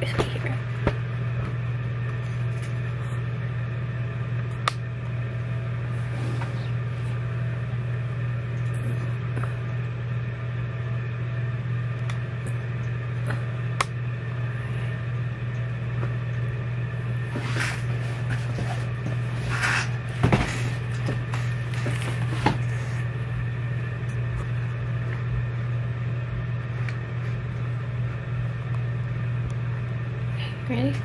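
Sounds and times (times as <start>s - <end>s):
fan humming: 0.0s - 31.0s.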